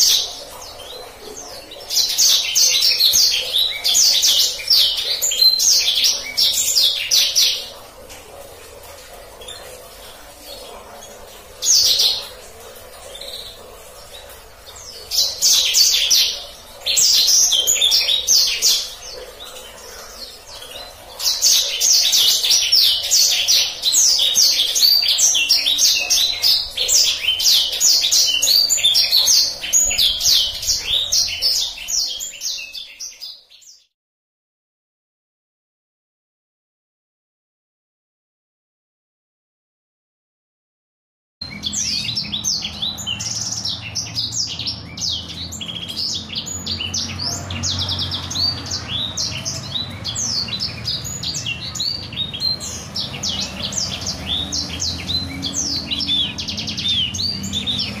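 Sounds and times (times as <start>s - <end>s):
bird singing rolling trills: 0.0s - 33.8s, 41.4s - 58.0s.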